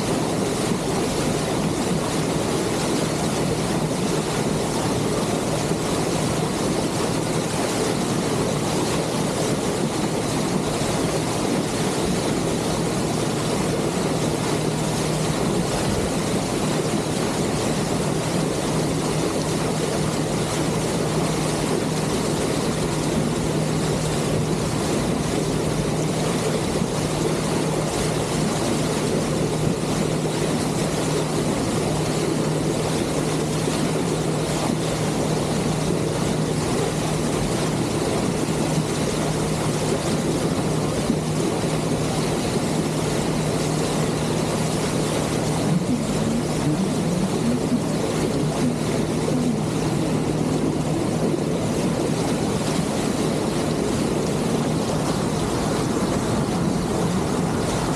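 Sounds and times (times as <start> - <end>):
boat engine droning: 0.0 - 57.9
water rushing at bow: 0.0 - 57.9
wind: 0.0 - 57.9.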